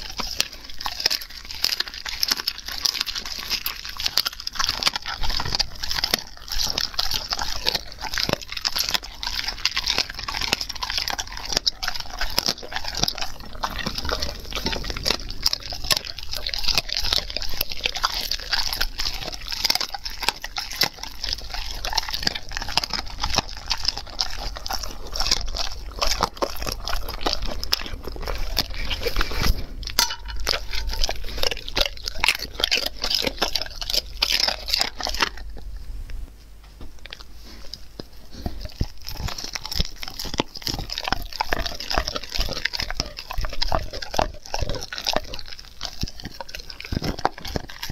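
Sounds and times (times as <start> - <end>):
dog chewing and crunching meat: 0.0 - 47.9.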